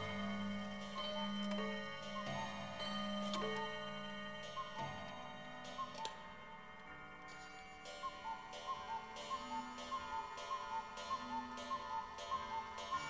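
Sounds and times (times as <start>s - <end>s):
clock ticking: 0.0s - 7.0s, 7.8s - 13.0s
sustained ringing tones: 0.0s - 13.0s.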